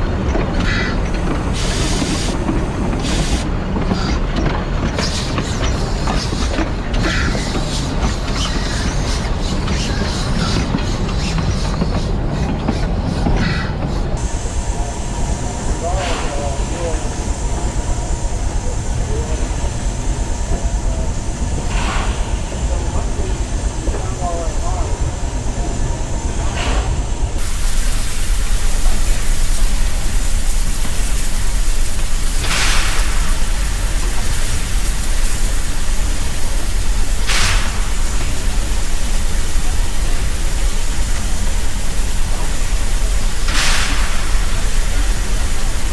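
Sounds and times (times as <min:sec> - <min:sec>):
loud steam hiss: 0:00.0 - 0:45.9
train wheels rumbling on rails: 0:00.0 - 0:45.9.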